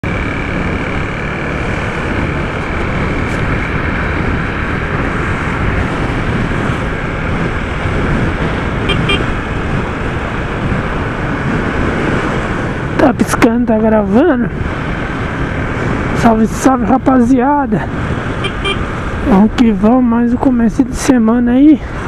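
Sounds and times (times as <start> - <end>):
road traffic noise: 0.0 - 22.0
wind rumble on microphone: 0.0 - 22.0.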